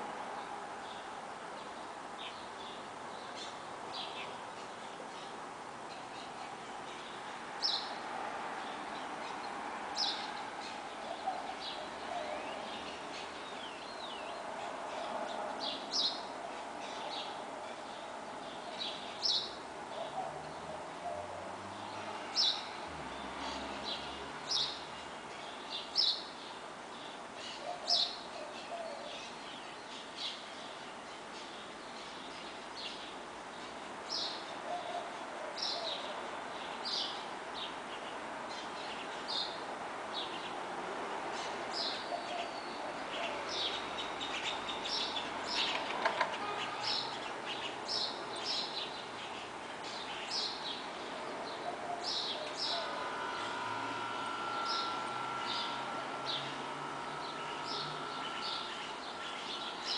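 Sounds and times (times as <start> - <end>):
distant traffic hum: 0.0 - 59.9
songbirds chirping: 0.0 - 59.9.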